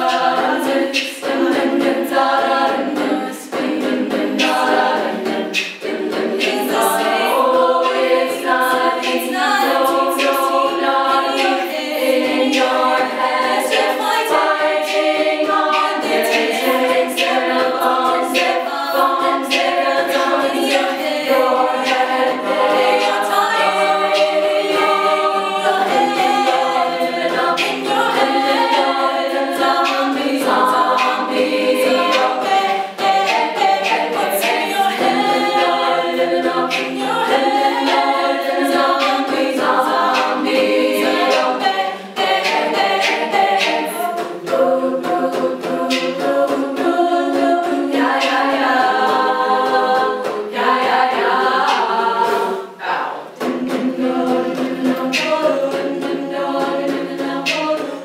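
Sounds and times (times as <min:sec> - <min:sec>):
women singing a cappella: 0:00.0 - 0:58.0.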